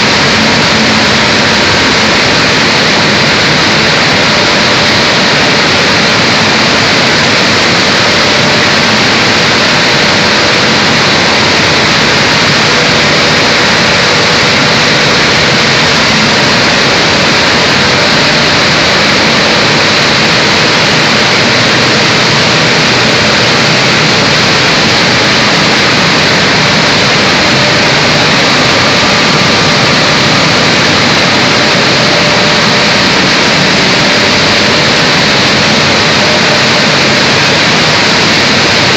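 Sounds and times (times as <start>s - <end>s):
faint steady hum: 0.0s - 38.9s
mill machinery din: 0.0s - 38.9s.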